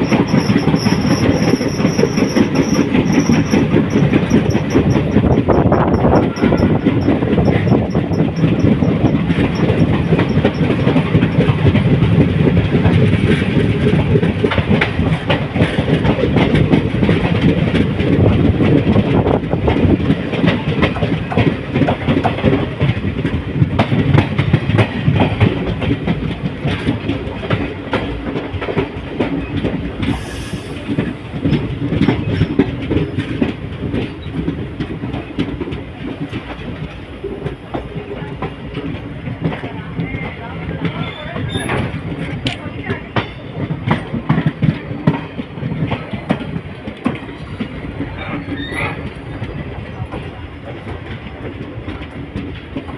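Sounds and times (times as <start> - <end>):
train wheels clattering on rails: 0.0 - 52.9.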